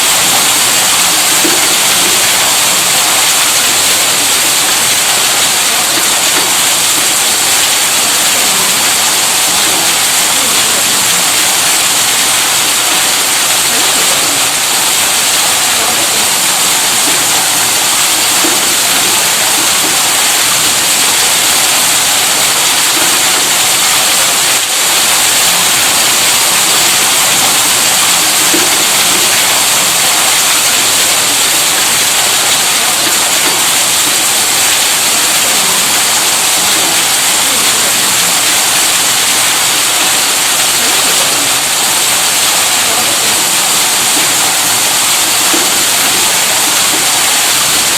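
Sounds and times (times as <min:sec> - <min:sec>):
water pump running: 0:00.0 - 0:47.9.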